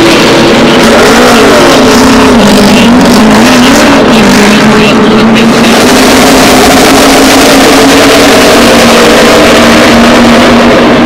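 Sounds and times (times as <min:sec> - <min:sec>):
race car engines running: 0:00.0 - 0:11.0.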